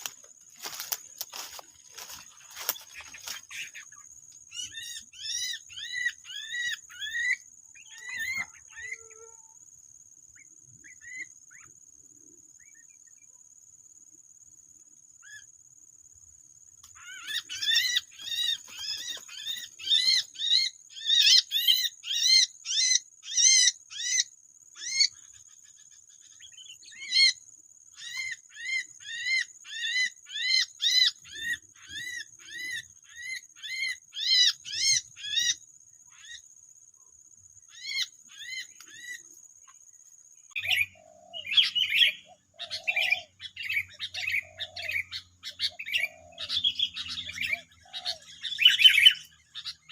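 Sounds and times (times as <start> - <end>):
bird chirping: 0.0 - 13.7, 16.5 - 49.9.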